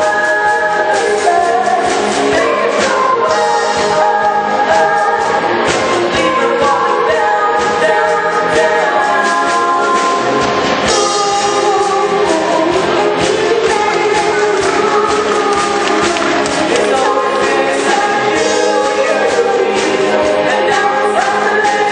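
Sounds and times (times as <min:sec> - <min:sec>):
band with steady drum beat: 0:00.0 - 0:21.9
youth choir singing pop song: 0:00.0 - 0:21.9.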